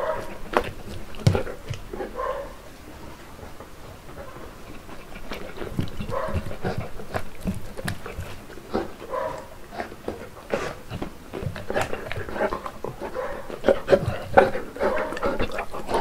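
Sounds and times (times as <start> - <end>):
dog chewing wetly: 0.0 - 16.0
jaws and teeth clicking: 0.1 - 2.2, 3.5 - 16.0.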